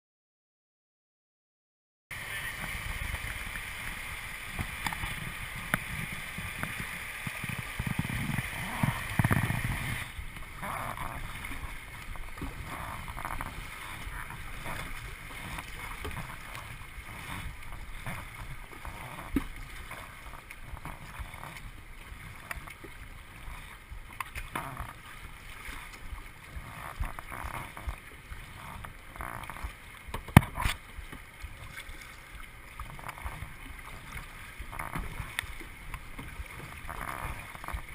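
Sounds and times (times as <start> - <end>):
paddle strokes: 2.1 - 37.9
river water rushing: 2.1 - 37.9
water splashing against kayak hull: 2.1 - 37.9.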